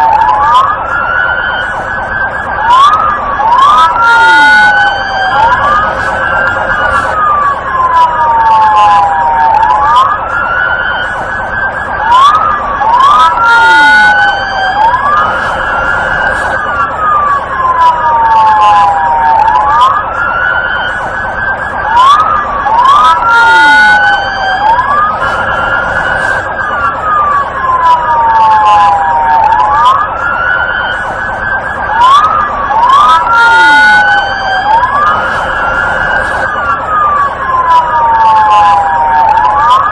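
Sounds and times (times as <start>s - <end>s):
fast-warbling siren tone: 0.0s - 39.9s
police siren wail: 0.0s - 39.9s.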